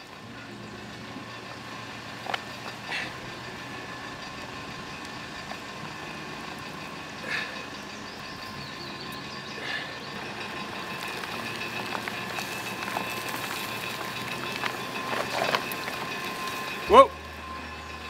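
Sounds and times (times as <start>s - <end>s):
vehicle engine at low revs: 0.0s - 18.0s.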